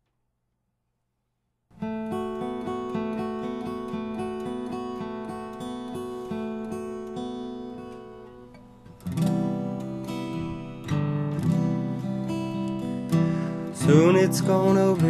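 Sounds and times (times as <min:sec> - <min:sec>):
acoustic guitar picked notes: 0:01.7 - 0:15.0
acoustic guitar strummed chords: 0:01.8 - 0:15.0.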